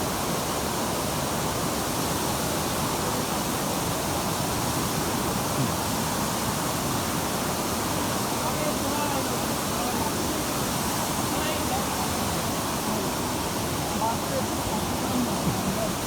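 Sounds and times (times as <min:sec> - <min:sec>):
waterfall pouring over rock: 0:00.0 - 0:16.0.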